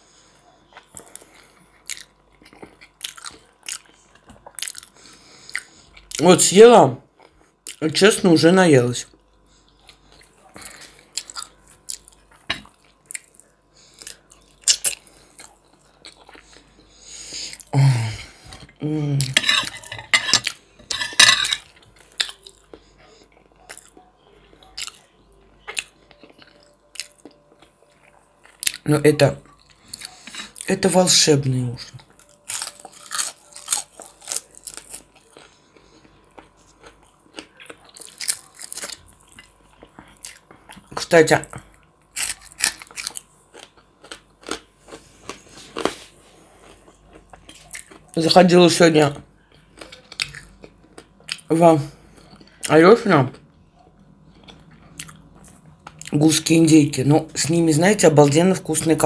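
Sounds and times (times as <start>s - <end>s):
person chewing food: 0.0s - 6.2s, 7.0s - 7.8s, 9.0s - 31.0s, 31.6s - 57.5s.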